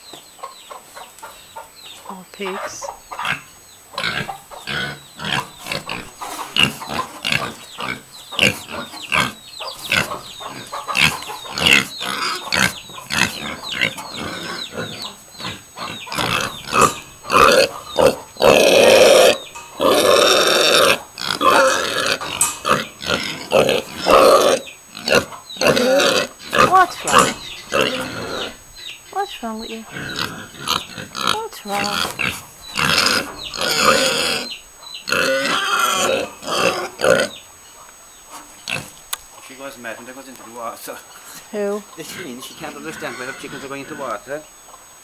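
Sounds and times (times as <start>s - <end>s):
pigs grunting: 2.5s - 37.4s, 38.4s - 39.0s, 39.6s - 44.4s
pig crying: 2.6s - 37.4s, 42.0s - 44.4s.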